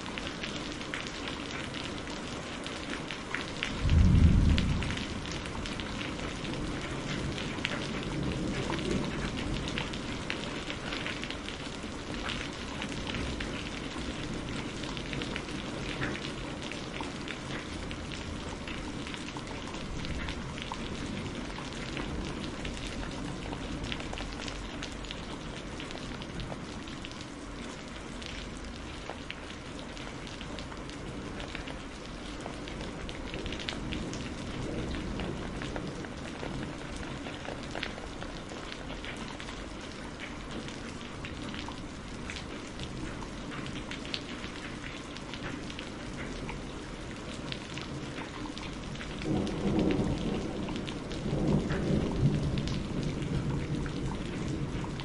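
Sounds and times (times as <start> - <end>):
heavy rain falling: 0.0 - 55.0
raindrops ticking: 0.1 - 55.0.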